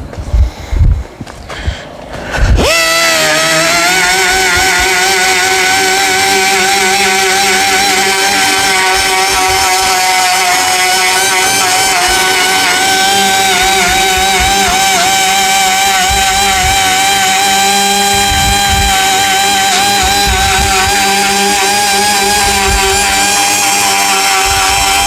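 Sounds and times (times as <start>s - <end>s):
orbital sander whining: 1.6s - 25.0s.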